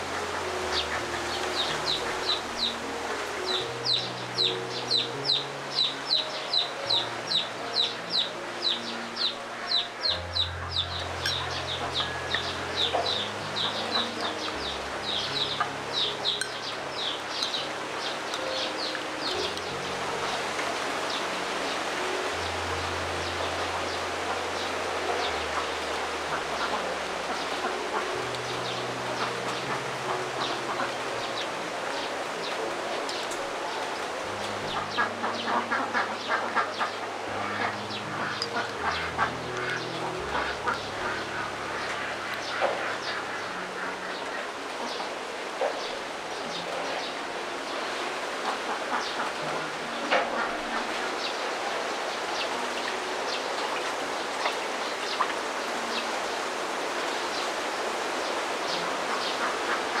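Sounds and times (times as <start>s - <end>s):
steady rushing hiss: 0.0s - 60.0s.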